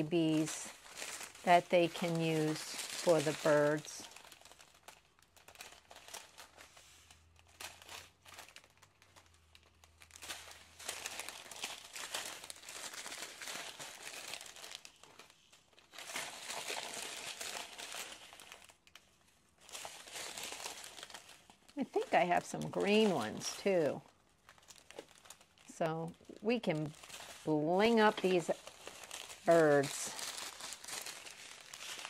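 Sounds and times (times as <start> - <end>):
plastic bags crinkling: 0.0 - 32.0.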